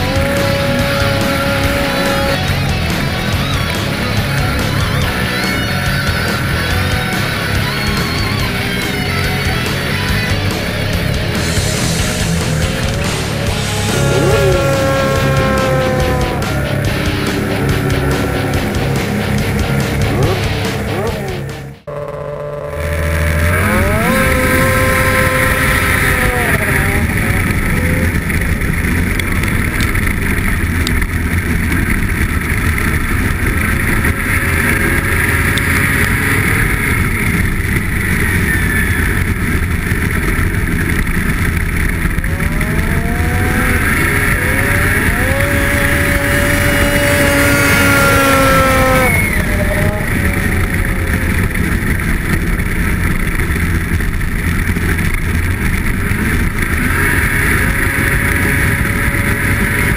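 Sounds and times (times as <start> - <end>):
snowmobiles revving: 0.0 - 59.9.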